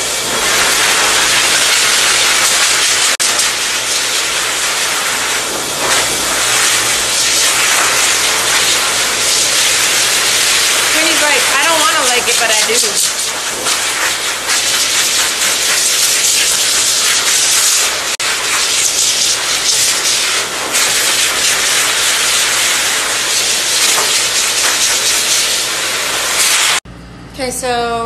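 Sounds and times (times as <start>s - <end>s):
dog dryer blowing air: 0.0s - 26.8s.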